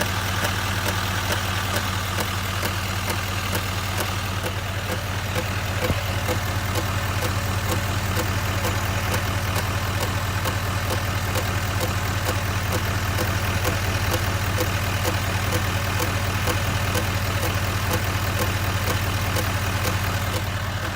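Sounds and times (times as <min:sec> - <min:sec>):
diesel engine idling: 0:00.0 - 0:20.9
engine tapping: 0:00.0 - 0:20.9.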